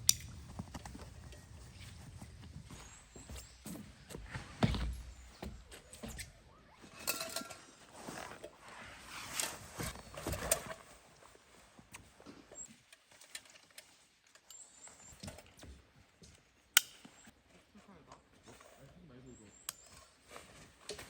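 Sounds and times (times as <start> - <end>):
rustling with clicks and knocks: 0.0 - 21.0.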